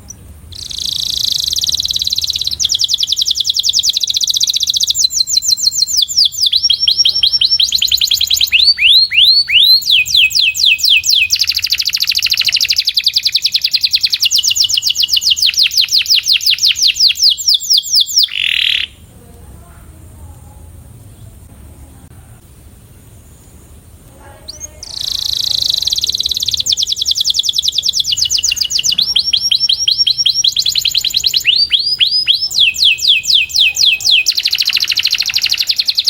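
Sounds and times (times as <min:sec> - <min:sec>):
canary singing rapid trills: 0:00.0 - 0:19.0, 0:24.3 - 0:36.0.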